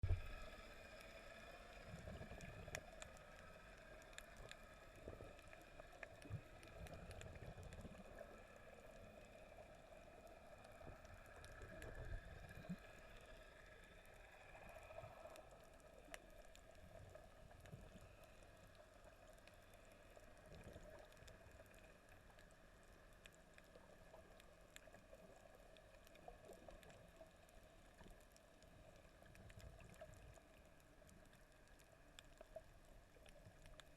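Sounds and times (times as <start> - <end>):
underwater hum: 0.0 - 33.9.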